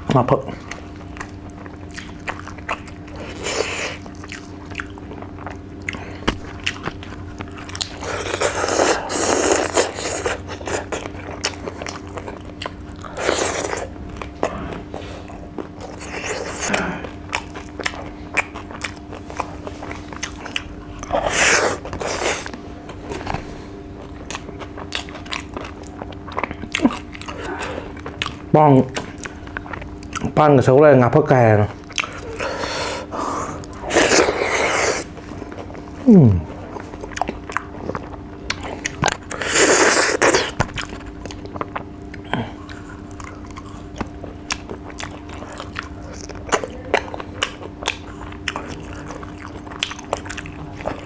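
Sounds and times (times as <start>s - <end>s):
faint steady hum: 0.0s - 51.0s
wet chewing and biting: 0.6s - 30.4s, 31.7s - 32.7s, 33.5s - 51.0s.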